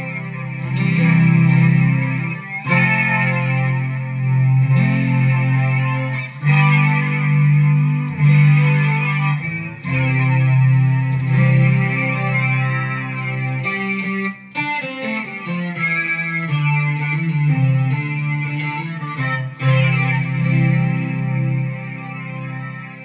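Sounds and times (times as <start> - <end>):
synth guitar chords: 0.0 - 23.0.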